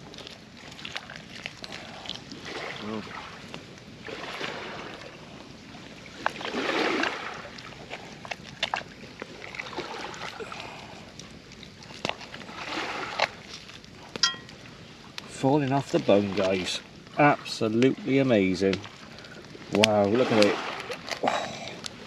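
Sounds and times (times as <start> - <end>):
surf: 0.0 - 22.0.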